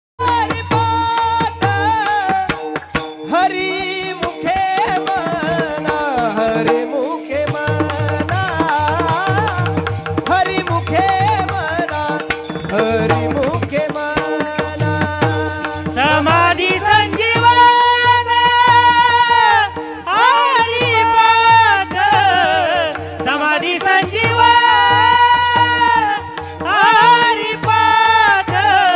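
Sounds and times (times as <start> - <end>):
man singing devotional melody: 0.2 - 28.9.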